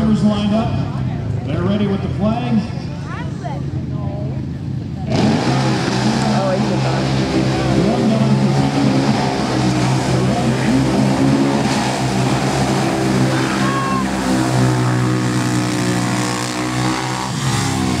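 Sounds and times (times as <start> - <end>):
off-road vehicle engines revving: 0.0 - 18.0.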